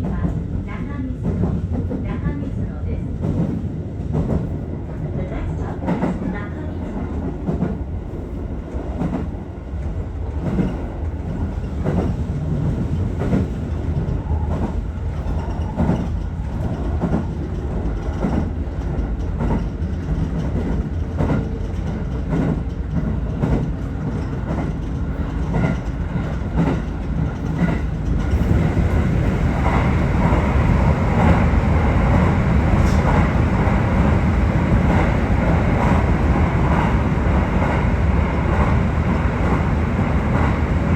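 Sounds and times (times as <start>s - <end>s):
electric train rumbling: 0.0s - 40.9s.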